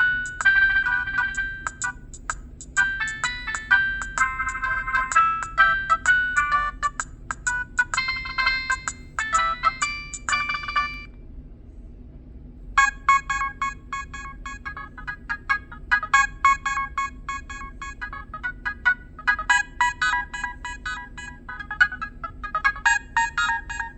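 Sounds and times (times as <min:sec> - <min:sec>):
electronic phone ringtone: 0:00.0 - 0:02.2, 0:02.8 - 0:11.1, 0:12.8 - 0:23.9.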